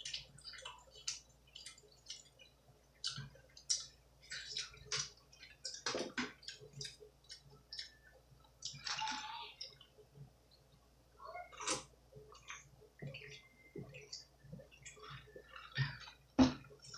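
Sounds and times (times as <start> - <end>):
mouth chewing food: 0.0 - 10.3, 11.4 - 16.9.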